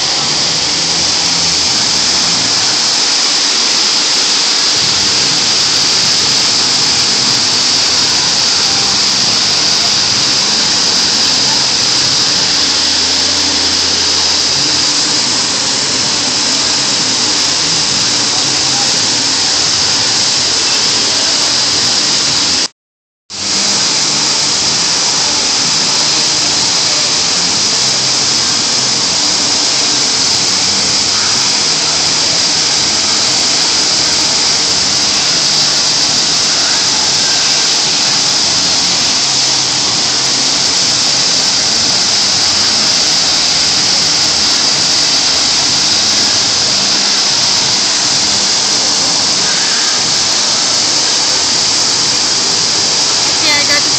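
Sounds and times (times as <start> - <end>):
fountain water jets splashing: 0.0 - 22.7, 23.3 - 53.9.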